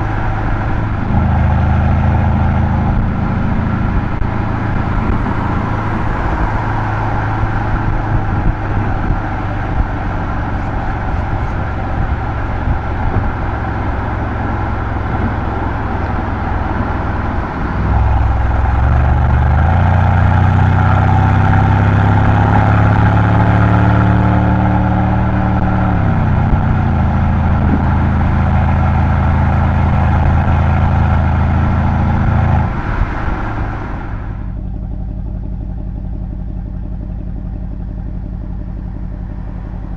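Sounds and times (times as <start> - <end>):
car exhaust while driving: 0.0 - 39.9.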